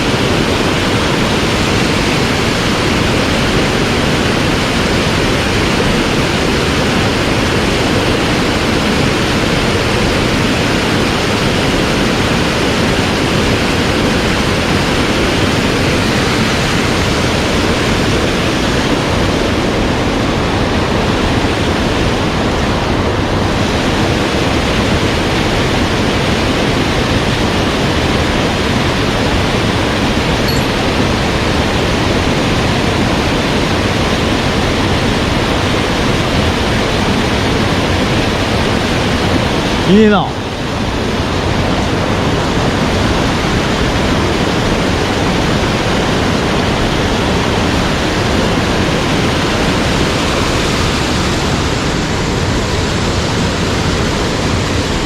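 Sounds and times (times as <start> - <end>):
rushing stream: 0.0 - 55.0.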